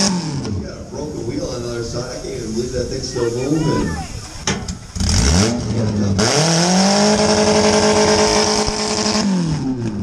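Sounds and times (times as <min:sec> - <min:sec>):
car engine revving: 0:00.0 - 0:03.2, 0:04.4 - 0:10.0.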